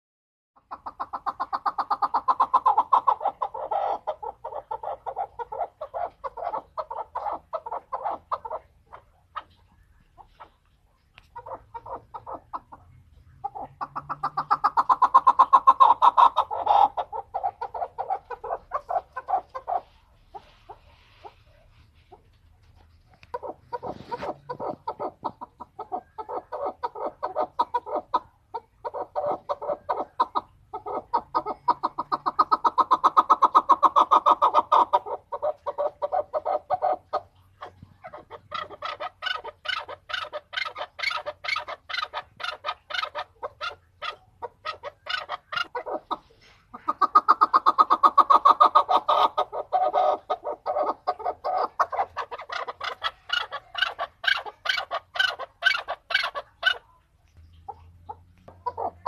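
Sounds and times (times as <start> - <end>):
partridge clucking calls: 0.6 - 59.0.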